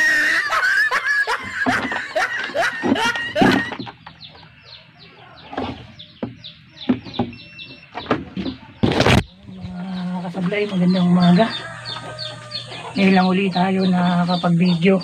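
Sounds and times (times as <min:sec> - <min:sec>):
chickens clucking and squawking: 0:00.0 - 0:15.0.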